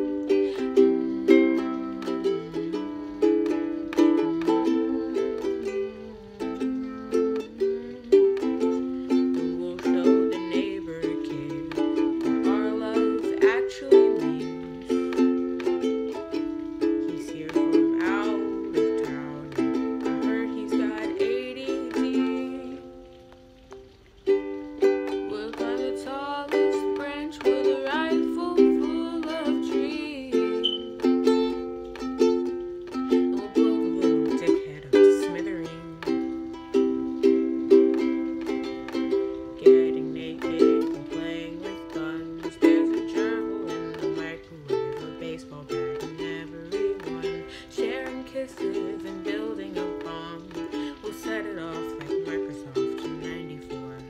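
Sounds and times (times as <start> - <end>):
ukulele strummed chords: 0.0 - 54.0.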